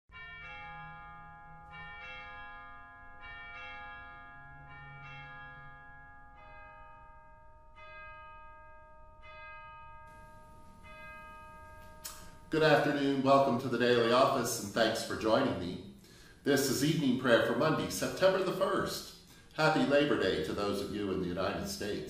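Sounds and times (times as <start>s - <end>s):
bells ringing: 0.1s - 22.0s.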